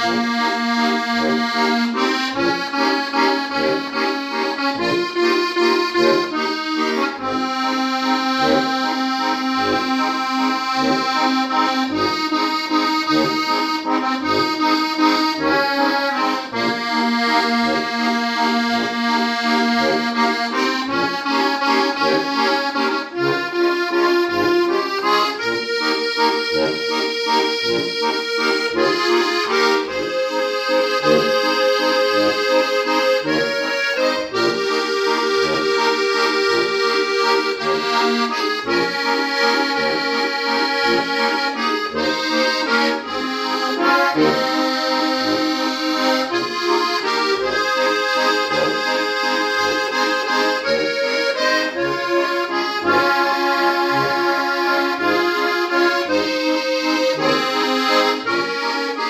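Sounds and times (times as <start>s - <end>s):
button accordion folk tune: 0.0s - 59.0s.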